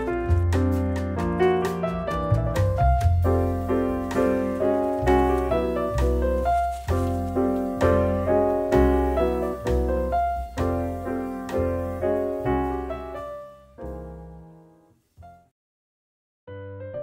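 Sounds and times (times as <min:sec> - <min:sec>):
low bass notes: 0:00.0 - 0:14.6
gentle piano tune: 0:00.0 - 0:15.5, 0:16.5 - 0:17.0.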